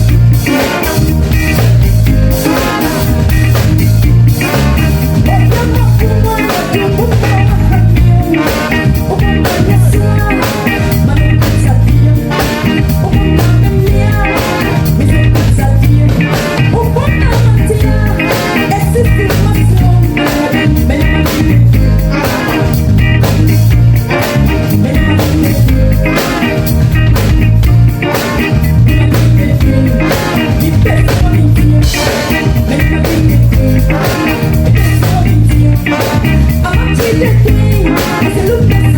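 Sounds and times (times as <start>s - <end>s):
loud band music: 0.0s - 38.9s.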